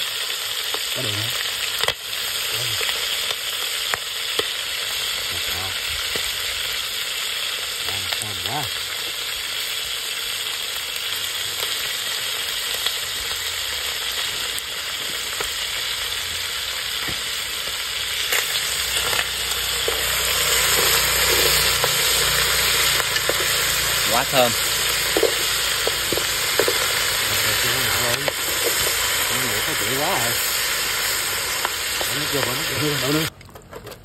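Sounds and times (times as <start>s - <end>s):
fish sizzling in a pot: 0.0s - 33.4s.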